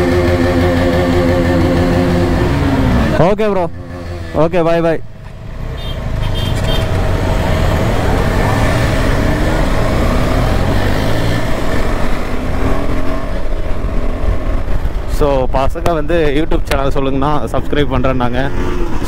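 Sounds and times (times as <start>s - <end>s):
motorcycle engine accelerating: 0.0s - 16.7s.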